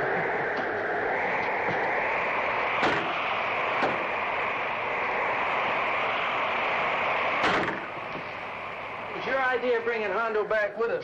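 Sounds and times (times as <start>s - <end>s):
wind blowing: 0.0s - 10.4s.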